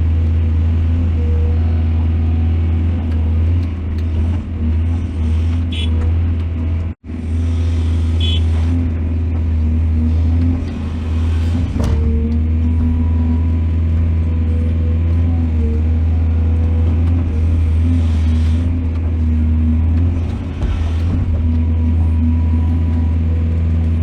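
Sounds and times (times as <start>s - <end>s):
diesel excavator engine droning: 0.0s - 24.0s.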